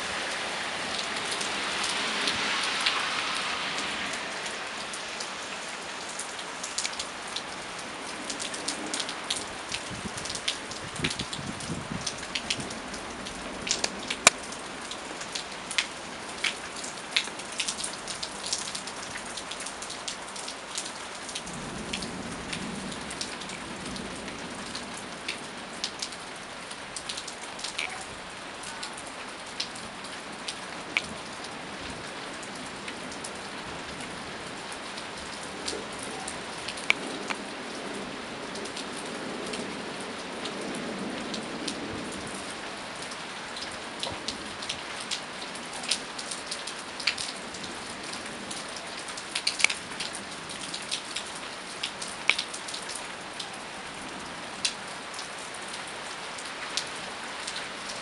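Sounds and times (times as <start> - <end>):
rain drops hitting close by: 0.0 - 58.0
steady rain: 0.0 - 58.0.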